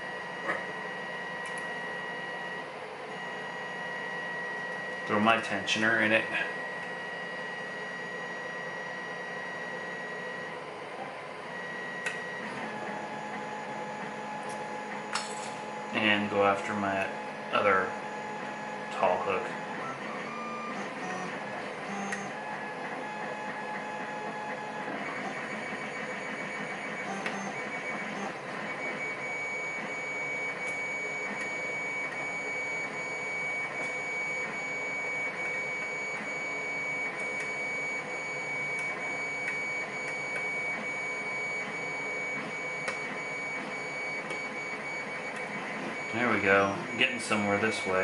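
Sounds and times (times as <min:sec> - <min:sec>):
mechanical whir with whining tones: 0:00.0 - 0:48.0.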